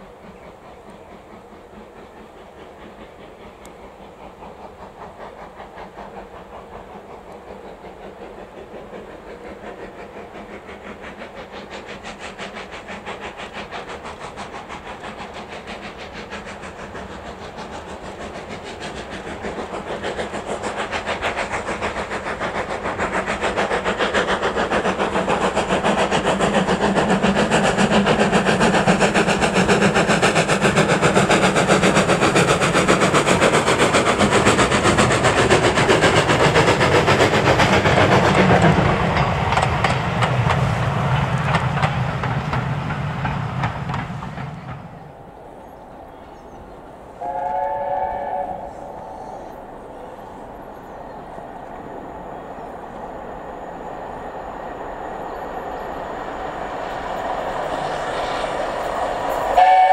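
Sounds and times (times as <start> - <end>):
steam locomotive and train passing: 0.0 - 59.9.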